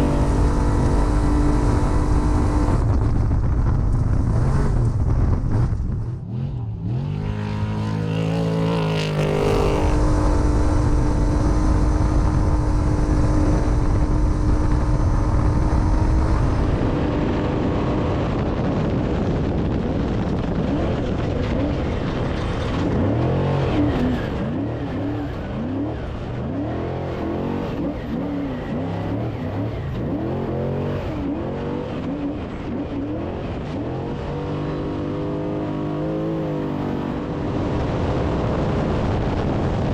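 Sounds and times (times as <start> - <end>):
race vehicle engines revving: 4.3 - 39.9.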